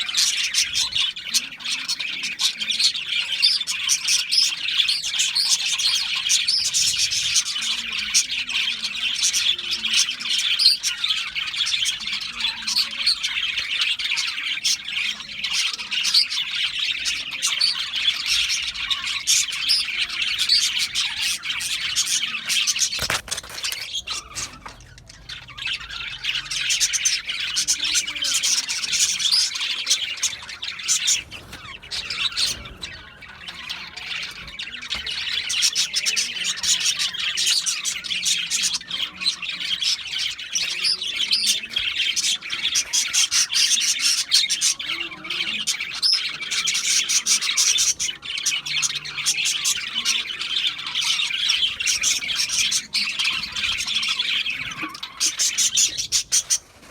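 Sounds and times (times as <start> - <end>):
budgerigars chirping and squawking: 0.0 - 56.9.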